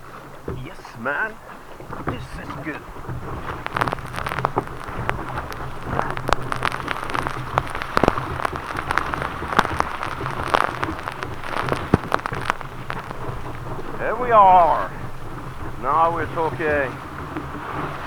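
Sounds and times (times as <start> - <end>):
water splashing around kayak: 0.0 - 18.0
wind rumble on microphone: 0.0 - 18.0.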